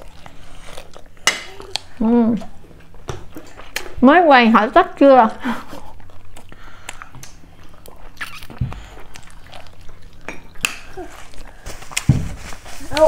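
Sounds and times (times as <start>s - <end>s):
chewing fried chicken: 0.0s - 4.0s, 5.4s - 12.1s.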